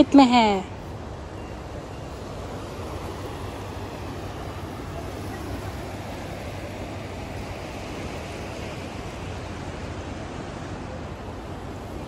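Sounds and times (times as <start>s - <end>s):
outdoor rushing noise: 0.8s - 12.0s.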